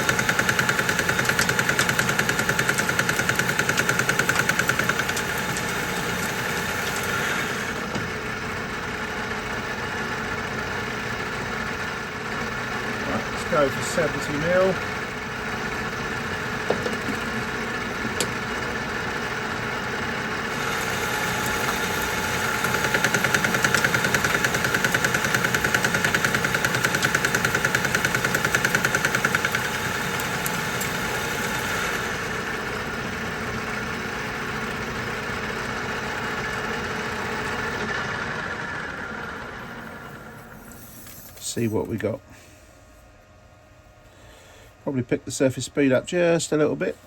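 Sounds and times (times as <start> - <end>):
metal lathe cutting: 0.0 - 40.7.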